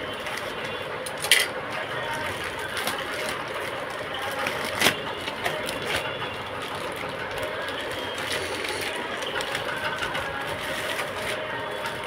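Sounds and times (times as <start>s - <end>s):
steady background noise: 0.0s - 12.0s
plastic crinkling: 1.7s - 12.0s.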